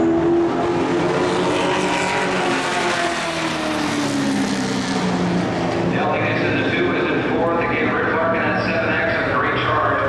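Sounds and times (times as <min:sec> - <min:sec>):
racing truck engines running: 0:00.0 - 0:10.0.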